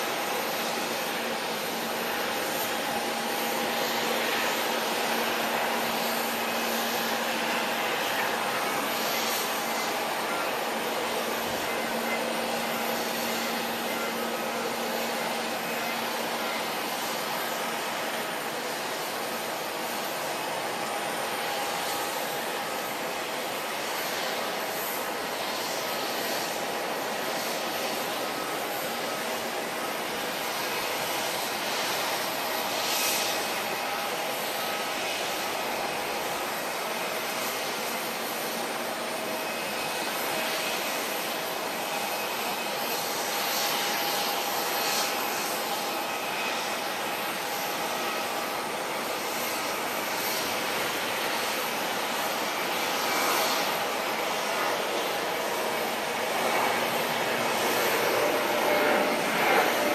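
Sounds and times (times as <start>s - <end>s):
jet engine hiss and whine: 0.0s - 59.9s.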